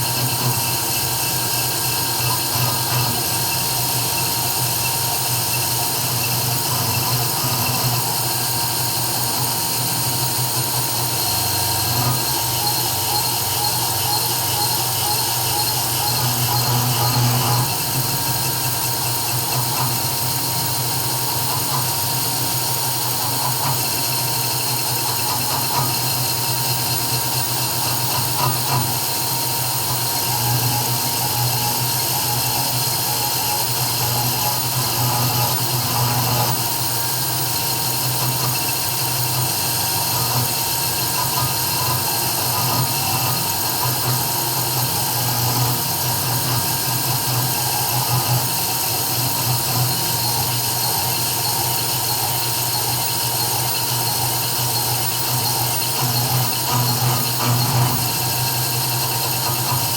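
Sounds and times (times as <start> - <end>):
engraving machine spindle whine: 0.0 - 59.9.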